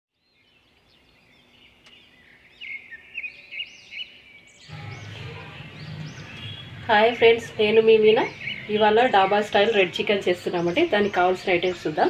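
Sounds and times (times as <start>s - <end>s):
birds chirping and whistling: 0.3s - 12.0s.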